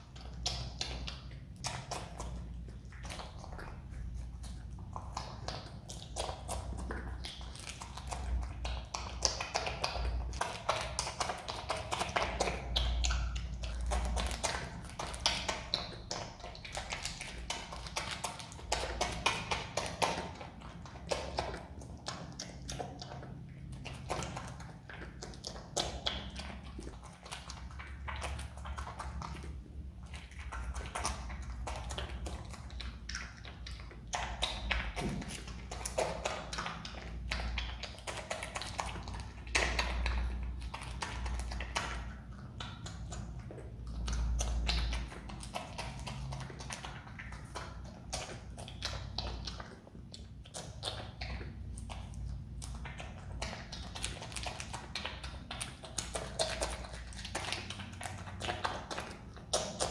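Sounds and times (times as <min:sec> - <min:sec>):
animal chewing and crunching: 0:00.0 - 0:59.9.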